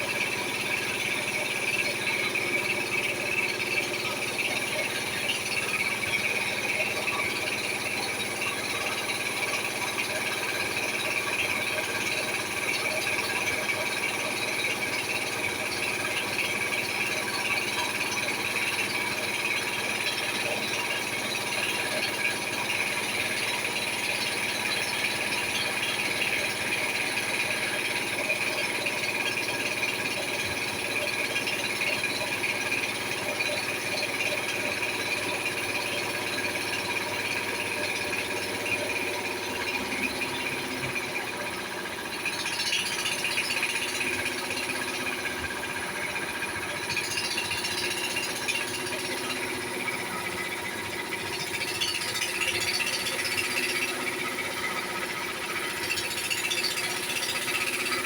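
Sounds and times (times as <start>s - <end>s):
machine high whine: 0.0s - 58.0s.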